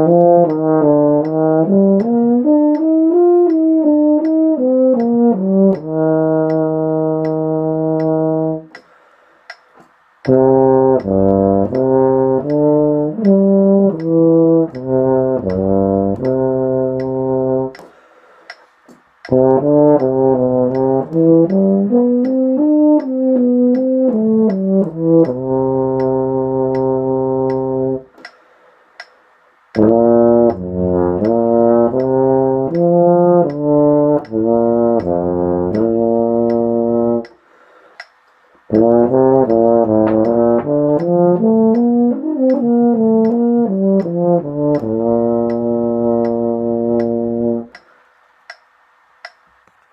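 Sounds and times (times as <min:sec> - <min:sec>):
euphonium playing: 0:00.0 - 0:08.8, 0:10.3 - 0:17.8, 0:19.3 - 0:28.1, 0:29.8 - 0:37.3, 0:38.7 - 0:47.8
faint ticking: 0:00.0 - 0:49.9.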